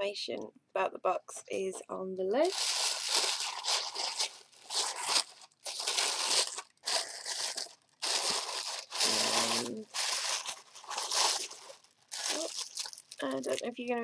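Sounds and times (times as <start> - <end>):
paper packaging crinkling: 2.4 - 13.8.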